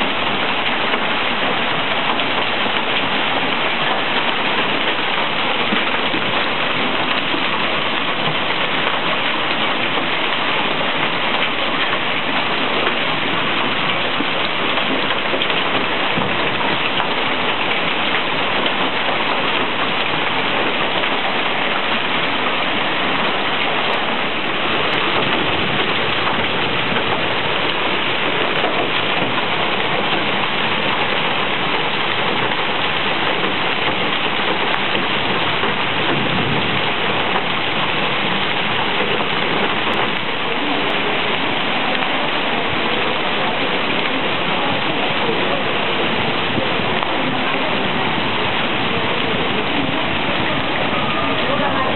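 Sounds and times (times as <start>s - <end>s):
hail and heavy rain pelting: 0.0s - 51.9s.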